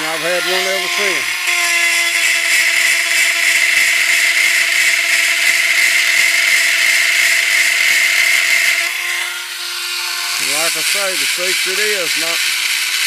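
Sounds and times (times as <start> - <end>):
chain-sharpening grinder whining: 0.0 - 13.0.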